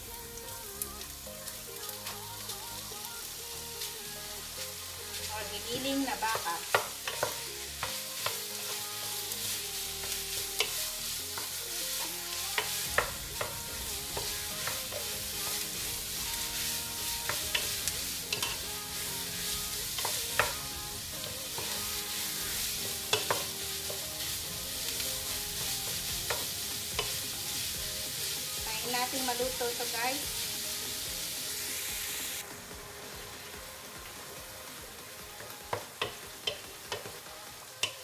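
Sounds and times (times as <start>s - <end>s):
meat and onions sizzling in a pot: 0.0s - 38.0s.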